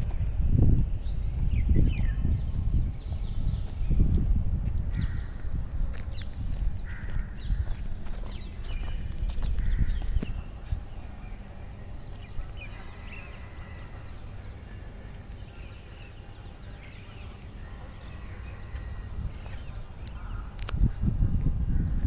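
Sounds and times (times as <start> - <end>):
small birds chirping: 0.1 - 4.3, 6.1 - 21.2.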